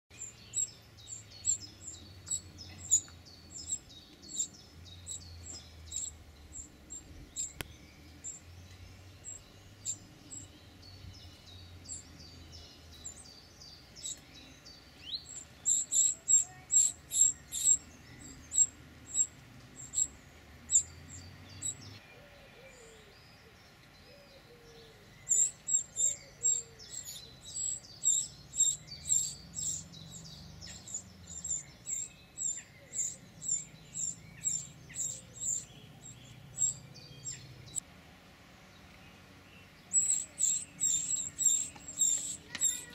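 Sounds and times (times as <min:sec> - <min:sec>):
wrens chirping high: 0:00.1 - 0:22.0, 0:25.2 - 0:37.8, 0:39.6 - 0:42.9.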